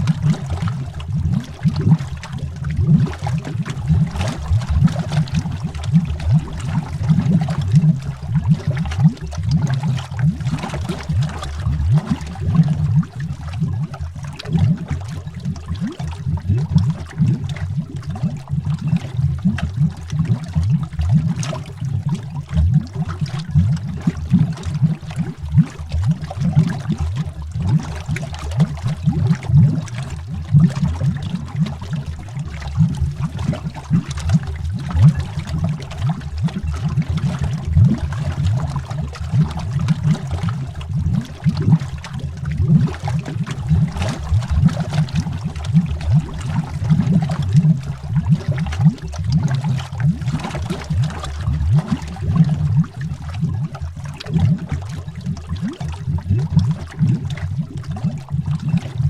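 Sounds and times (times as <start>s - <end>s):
underwater bubbling: 0.0s - 59.0s.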